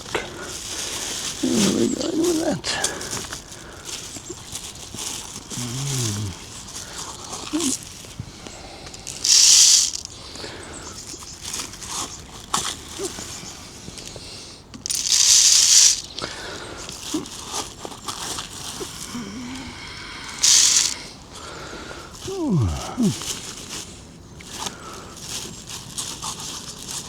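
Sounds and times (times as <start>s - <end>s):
bird food bag rustling: 0.0s - 27.0s.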